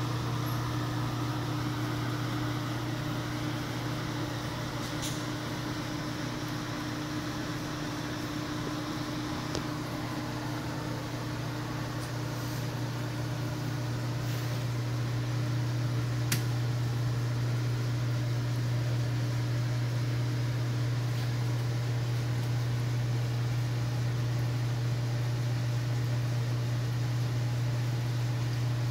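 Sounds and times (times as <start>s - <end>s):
oven blower fan humming: 0.0s - 28.9s.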